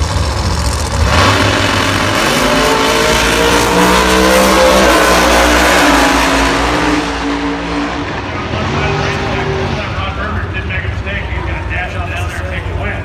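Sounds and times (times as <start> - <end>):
drag racing engine accelerating: 0.0 - 13.0.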